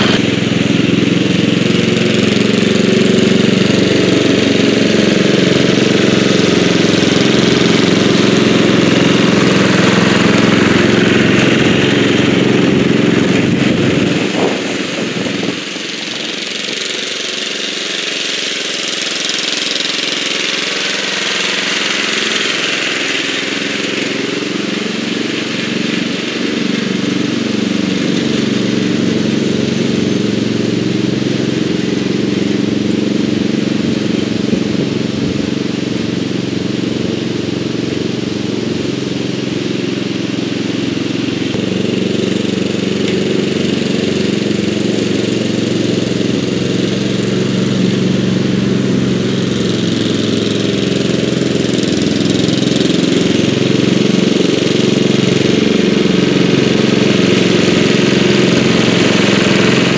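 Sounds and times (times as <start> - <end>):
lawn tractor engine mowing: 0.0 - 59.9.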